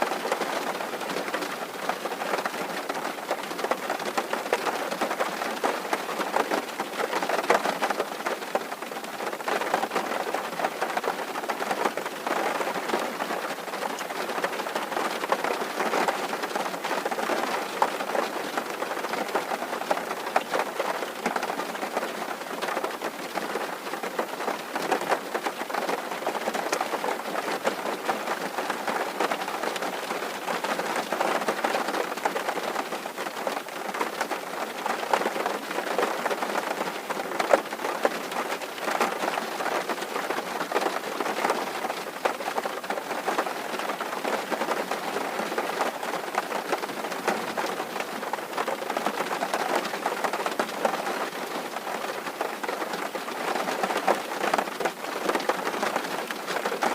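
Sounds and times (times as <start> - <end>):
rain on a tin roof: 0.0 - 56.9.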